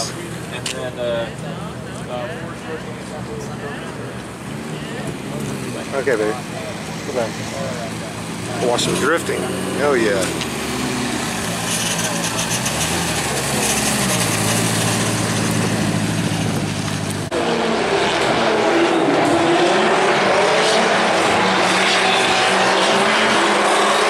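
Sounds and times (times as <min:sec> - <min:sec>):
car engine running nearby: 0:00.0 - 0:24.0
drift car engines revving: 0:01.3 - 0:24.0.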